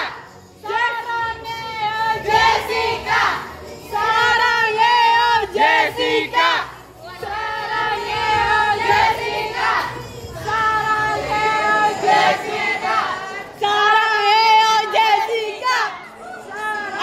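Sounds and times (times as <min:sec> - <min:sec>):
choir of high voices singing: 0:00.0 - 0:17.0.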